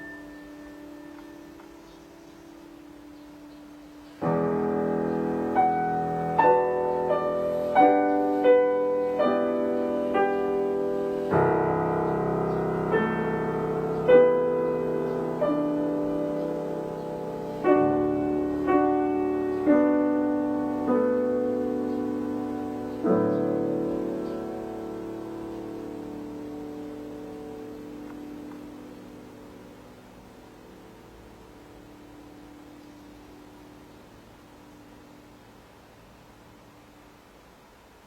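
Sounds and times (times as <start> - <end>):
slow solo piano: 0.0 - 38.0.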